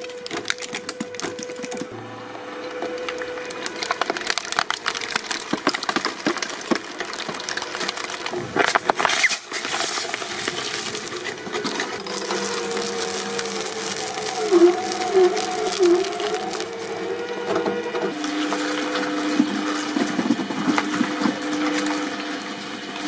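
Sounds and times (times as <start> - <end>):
material cracking and snapping: 0.0 - 2.0, 2.7 - 22.4
shredding machine hum: 0.0 - 23.0.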